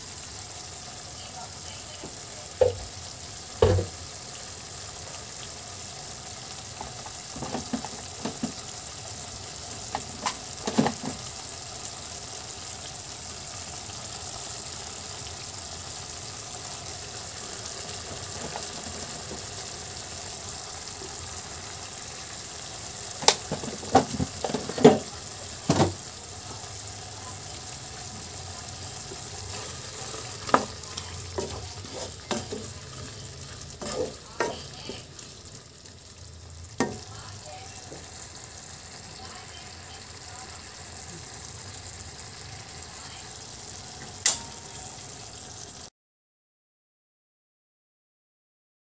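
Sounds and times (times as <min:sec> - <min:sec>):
meat and onions sizzling in a pan: 0:00.0 - 0:45.9.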